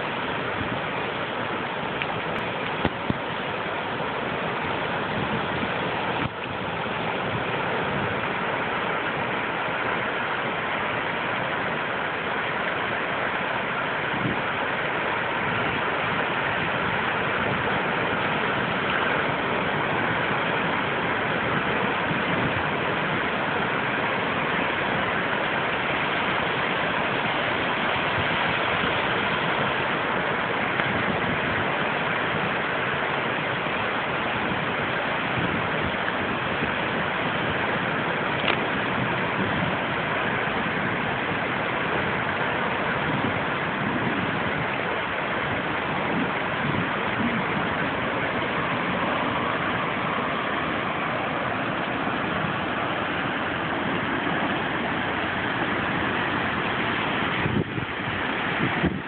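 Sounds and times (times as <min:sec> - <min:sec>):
waves breaking over rocks: 0:00.0 - 0:59.0.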